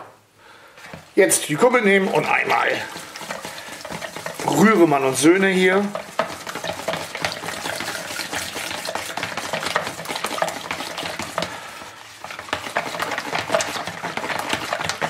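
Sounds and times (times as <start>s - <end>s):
whisk scraping bowl: 0.6s - 15.0s.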